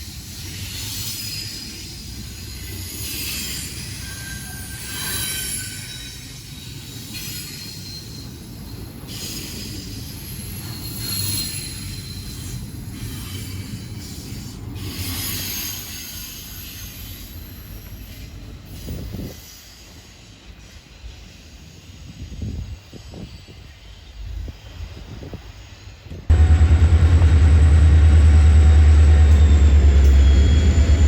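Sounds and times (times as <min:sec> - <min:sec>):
freight train rumble: 0:00.0 - 0:31.0
train wheels squealing: 0:00.0 - 0:31.0.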